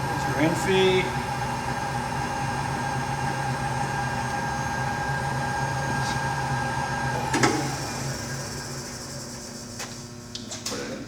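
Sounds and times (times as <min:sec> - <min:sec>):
lathe whining and humming: 0:00.0 - 0:11.0.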